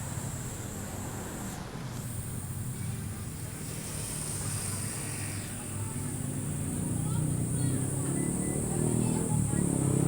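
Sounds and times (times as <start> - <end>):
road and wind noise: 1.6 - 10.0.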